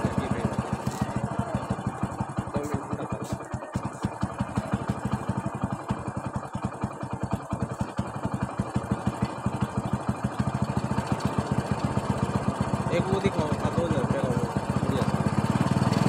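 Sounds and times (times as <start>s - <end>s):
small engine thumping: 0.0s - 16.0s.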